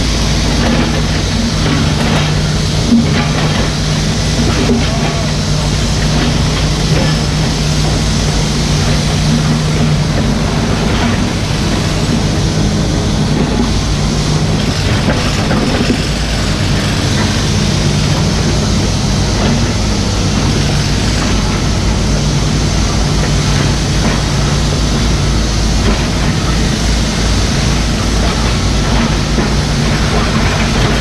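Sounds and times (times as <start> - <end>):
excavator diesel engine running: 0.0 - 31.0
machine knocks and clatters: 0.0 - 31.0.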